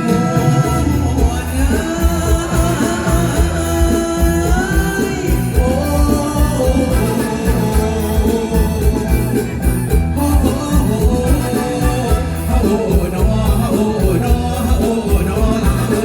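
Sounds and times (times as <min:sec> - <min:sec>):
driving drum beat: 0:00.0 - 0:16.0
live band playing: 0:00.0 - 0:16.0
person singing: 0:00.0 - 0:16.0.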